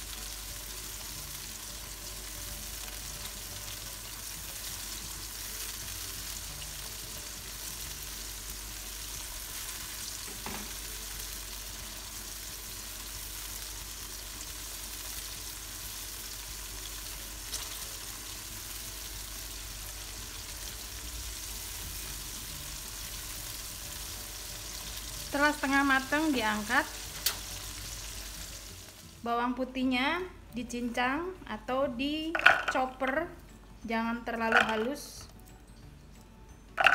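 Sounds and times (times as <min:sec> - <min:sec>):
chillies sizzling in oil: 0:00.0 - 0:30.1.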